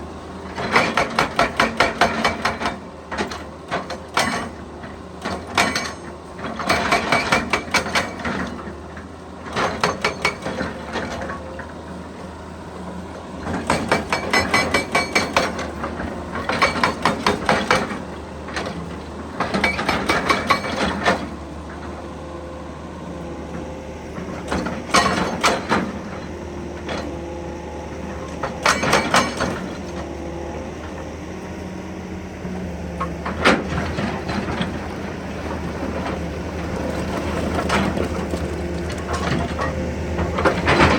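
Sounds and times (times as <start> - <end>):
excavator engine drone: 0.0 - 40.9
hydraulic breaker hammering rock: 0.5 - 4.6, 5.2 - 8.6, 9.5 - 11.4, 13.4 - 22.0, 23.5 - 30.4, 32.9 - 40.9.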